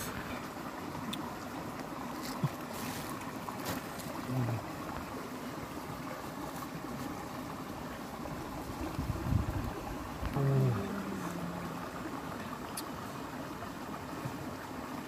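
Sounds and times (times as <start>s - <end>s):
background hiss and rumble: 0.0s - 15.0s.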